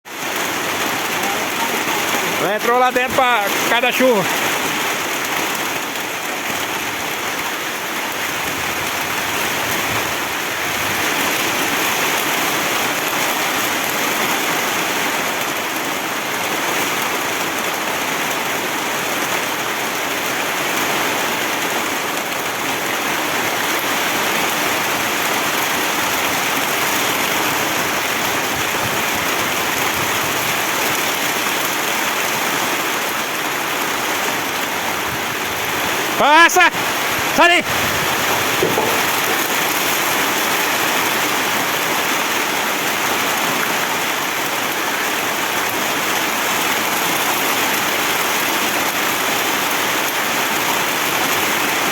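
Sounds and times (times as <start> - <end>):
heavy rain downpour: 0.0 - 51.9.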